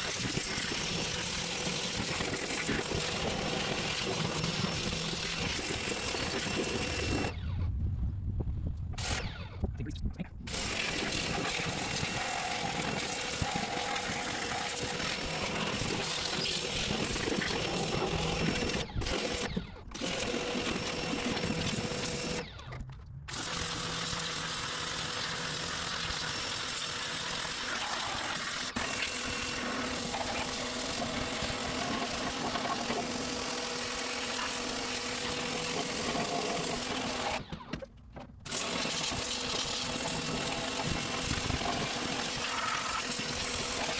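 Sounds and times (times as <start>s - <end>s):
motor hum: 0.0s - 37.8s.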